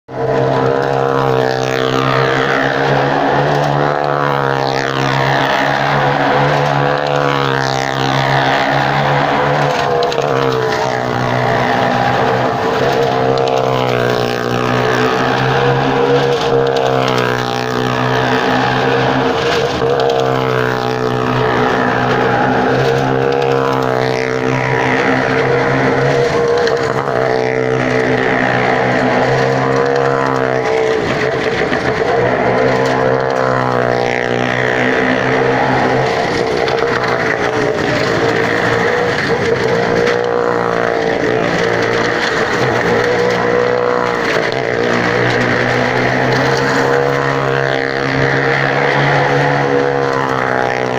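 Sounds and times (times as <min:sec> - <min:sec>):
car and motorcycle engines revving: 0:00.0 - 0:50.9.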